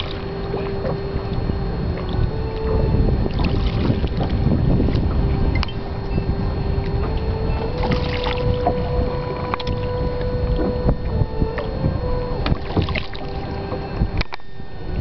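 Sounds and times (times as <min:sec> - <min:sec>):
steady hum: 0:00.0 - 0:15.0
wind buffeting microphone: 0:00.0 - 0:15.0.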